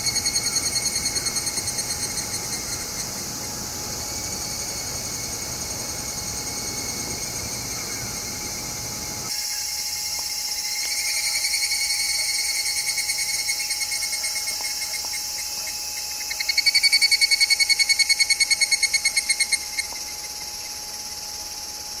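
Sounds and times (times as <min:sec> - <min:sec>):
cicadas calling in pulses: 0:00.0 - 0:22.0
high cicada chorus: 0:00.0 - 0:22.0.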